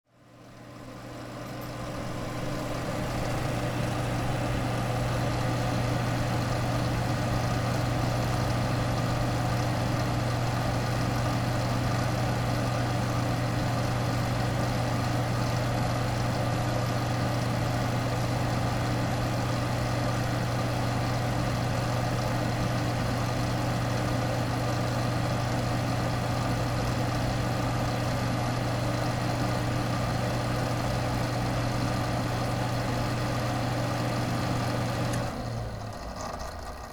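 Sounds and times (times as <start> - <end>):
computer fan humming: 0.1 - 35.8.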